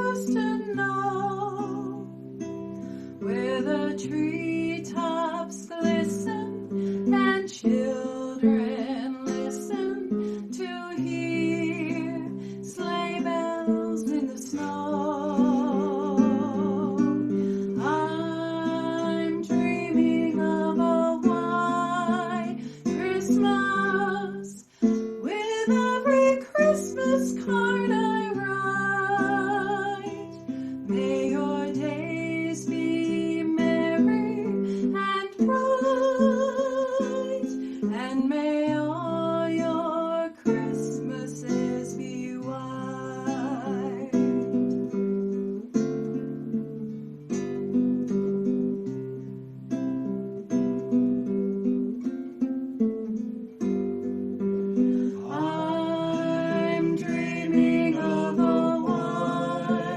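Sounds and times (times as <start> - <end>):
acoustic guitar strumming: 0.0 - 39.6, 40.5 - 59.9.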